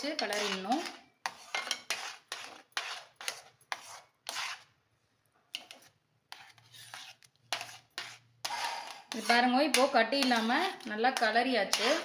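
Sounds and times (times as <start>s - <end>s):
metal spoon scraping a pot: 0.0s - 4.7s, 5.5s - 12.0s.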